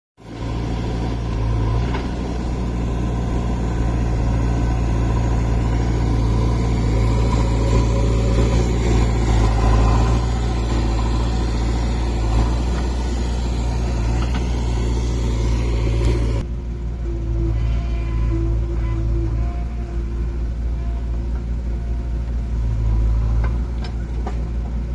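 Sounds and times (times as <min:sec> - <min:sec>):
diesel engines idling: 0:00.2 - 0:24.9.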